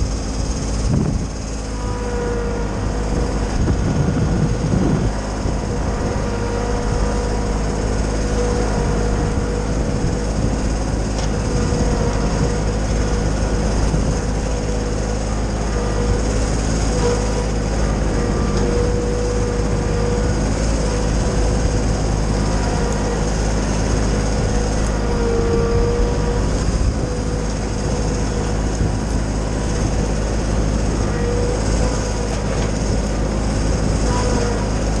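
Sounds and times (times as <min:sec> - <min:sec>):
tractor diesel engine: 0:00.0 - 0:35.0
wood chipper running: 0:00.0 - 0:35.0.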